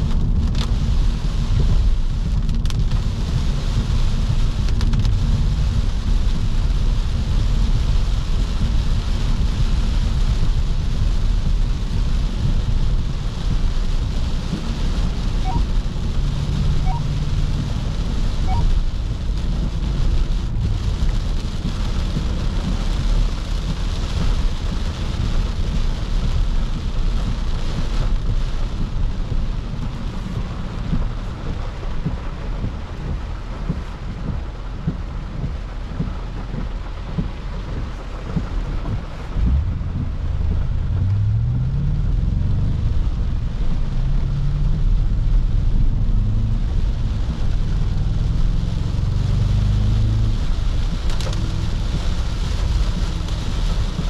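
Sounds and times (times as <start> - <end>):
car road rumble: 0.0 - 54.0
rain and tyre spray hiss: 0.0 - 54.0.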